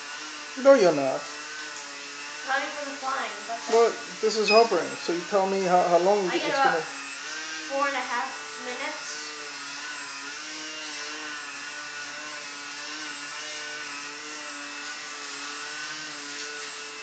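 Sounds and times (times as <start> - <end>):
model airplane motor buzzing whine: 0.0 - 17.0.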